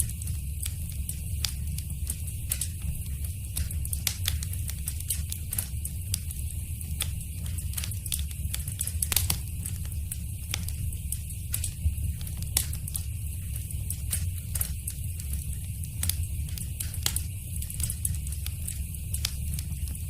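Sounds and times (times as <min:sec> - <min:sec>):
fire low rumble and hiss: 0:00.0 - 0:20.0
wood fire popping and snapping: 0:00.0 - 0:20.0.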